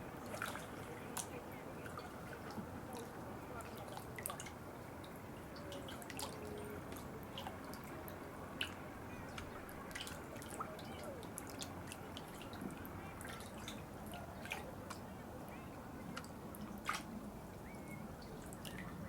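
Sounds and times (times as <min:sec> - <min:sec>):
flowing water rush: 0:00.0 - 0:19.0.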